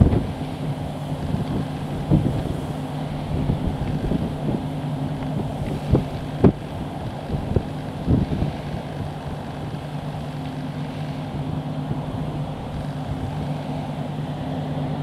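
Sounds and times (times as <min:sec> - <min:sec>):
combine harvester engine droning: 0:00.0 - 0:15.0
wind buffeting microphone: 0:00.0 - 0:15.0.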